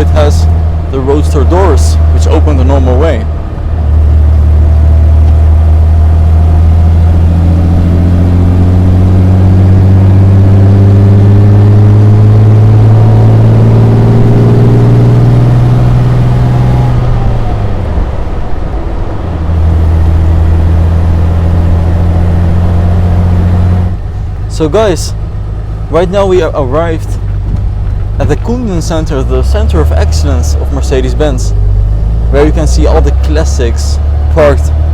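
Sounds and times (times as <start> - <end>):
car engine pulling under load: 0.0 - 34.9.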